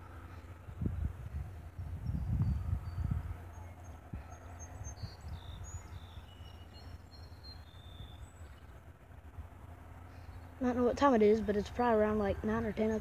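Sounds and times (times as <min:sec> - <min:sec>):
wind rumble on microphone: 0:00.0 - 0:10.6
birds chirping: 0:00.0 - 0:13.0.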